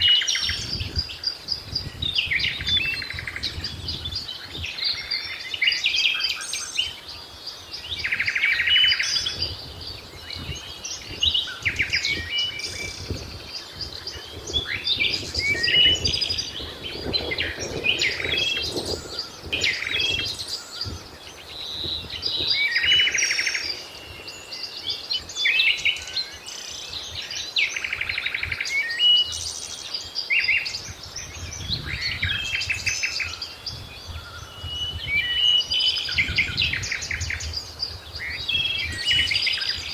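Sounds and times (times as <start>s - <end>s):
wild birds singing and calling: 0.0s - 39.9s.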